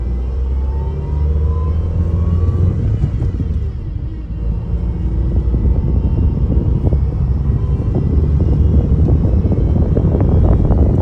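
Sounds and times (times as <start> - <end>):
car engine running: 0.0 - 11.0
faint rising whine: 0.0 - 11.0
loud rough power steering grinding: 0.0 - 11.0.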